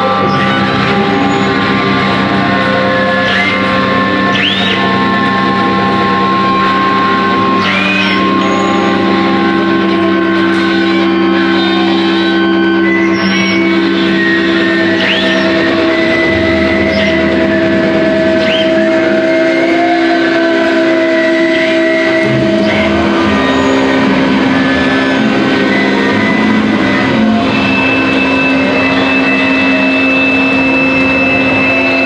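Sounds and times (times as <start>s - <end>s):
droning electric guitars: 0.0s - 32.0s
guitar squeals: 0.0s - 32.0s.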